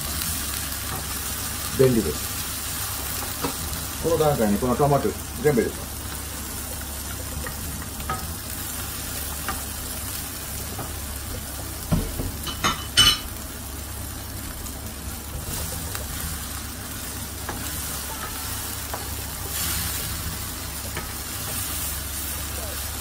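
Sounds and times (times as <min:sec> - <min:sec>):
tomatoes sizzling in oil: 0:00.0 - 0:23.0.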